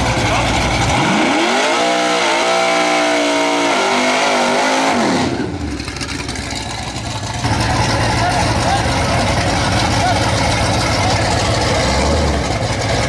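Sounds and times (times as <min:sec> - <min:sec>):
drag car engine revving: 0:00.0 - 0:13.0.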